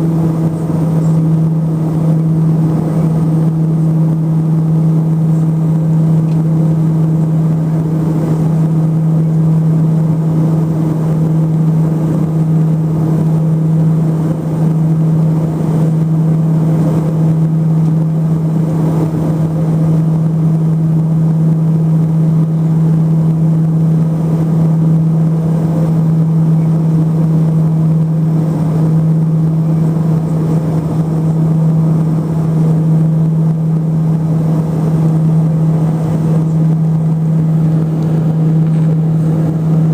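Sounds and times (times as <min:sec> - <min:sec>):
airflow noise: 0:00.0 - 0:39.9
turboprop engines droning: 0:00.0 - 0:39.9.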